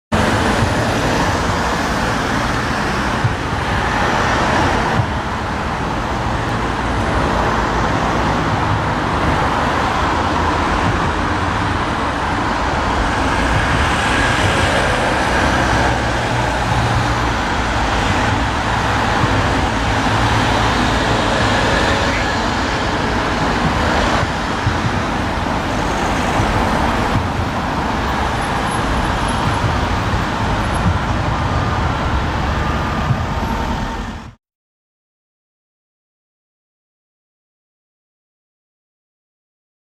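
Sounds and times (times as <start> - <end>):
tyres on asphalt: 0.1 - 34.4
vehicle engines running: 0.1 - 34.4.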